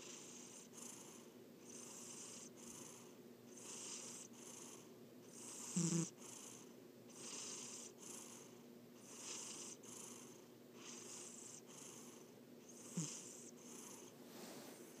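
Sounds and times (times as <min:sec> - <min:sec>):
cat snoring softly: 0:00.0 - 0:15.0.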